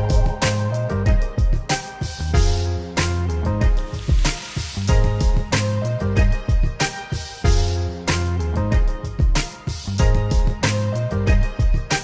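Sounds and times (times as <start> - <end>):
held chords: 0.0 - 12.0
steady drum beat: 0.0 - 12.0.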